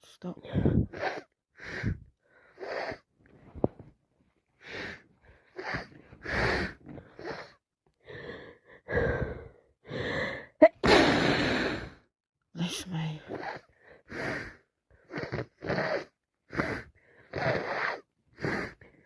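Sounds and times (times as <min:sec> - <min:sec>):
gasping breaths: 0:00.4 - 0:03.1, 0:04.6 - 0:12.1, 0:13.2 - 0:19.0.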